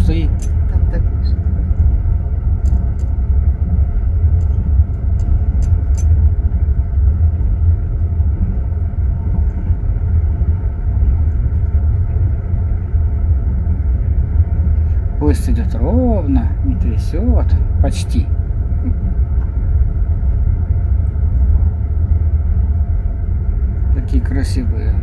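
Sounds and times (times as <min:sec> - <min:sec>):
train carriage rumbling on rails: 0:00.0 - 0:25.0.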